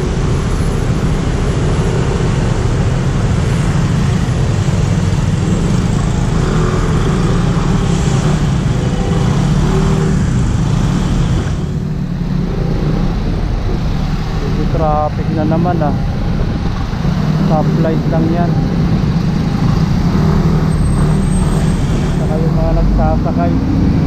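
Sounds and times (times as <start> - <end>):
motorcycle engine hum: 0.0 - 24.0
road and wind noise: 0.0 - 24.0.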